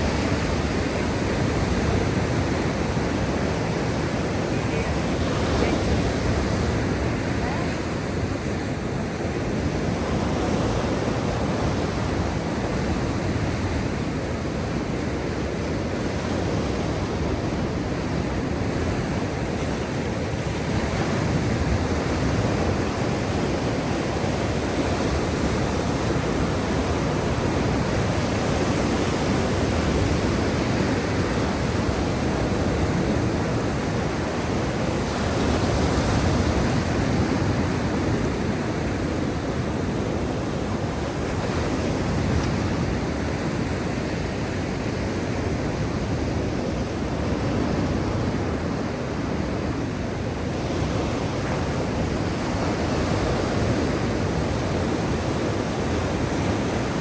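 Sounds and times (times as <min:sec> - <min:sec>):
waves rushing: 0:00.0 - 0:57.0.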